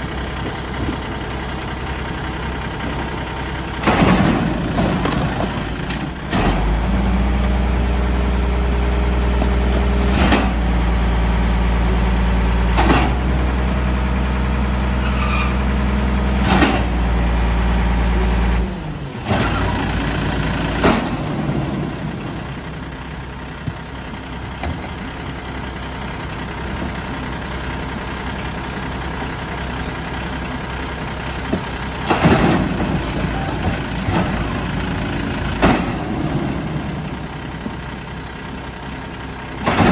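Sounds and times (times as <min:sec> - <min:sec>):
diesel truck engine idling: 0:00.0 - 0:39.9
hydraulic packer running: 0:00.0 - 0:39.9.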